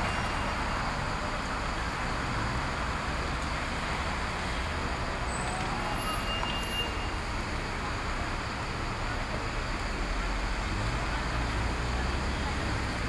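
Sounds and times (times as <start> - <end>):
bus engine idling: 0.0 - 13.0
traffic noise: 0.0 - 13.0.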